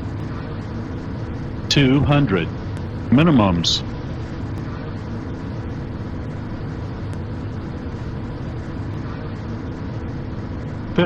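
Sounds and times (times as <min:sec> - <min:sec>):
jet cockpit engine and air rush: 0:00.0 - 0:11.0
low hum: 0:00.0 - 0:11.0.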